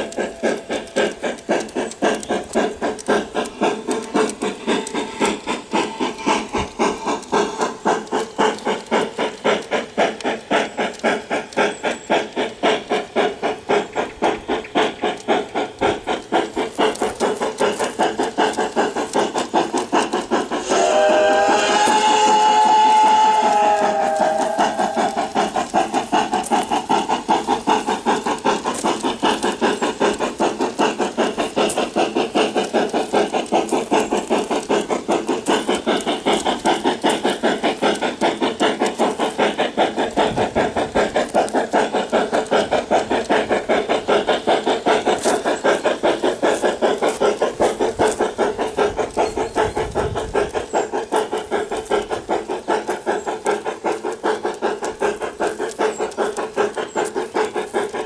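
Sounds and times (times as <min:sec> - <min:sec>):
steam locomotive chuffs: 0:00.0 - 0:58.0.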